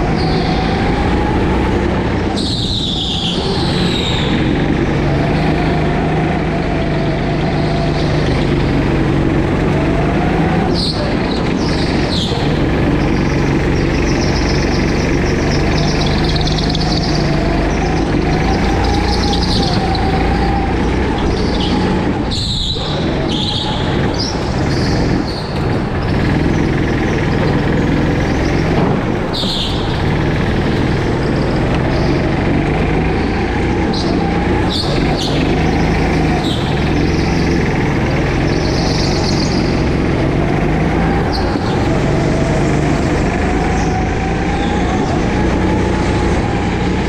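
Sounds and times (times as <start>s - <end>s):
go-kart engine running: 0.0s - 47.0s.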